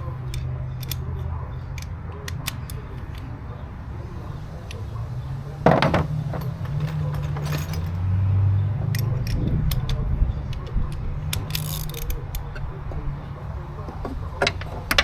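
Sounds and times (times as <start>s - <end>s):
metal tools clinking on steel: 0.0s - 10.6s, 11.2s - 12.7s.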